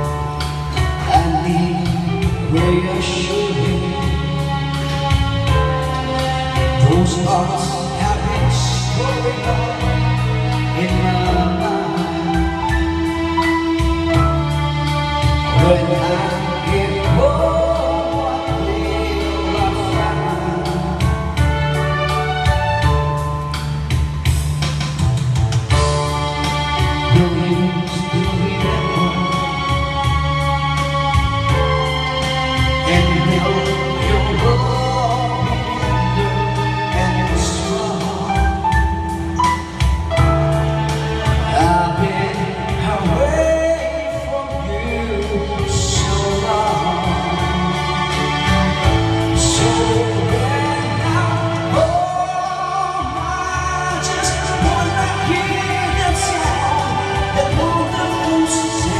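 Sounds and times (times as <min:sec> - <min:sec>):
man singing into microphone: 0:00.0 - 0:23.2, 0:25.8 - 0:30.4, 0:31.1 - 0:58.9
drum beats: 0:00.0 - 0:58.9
instrumental karaoke backing track: 0:00.0 - 0:58.9.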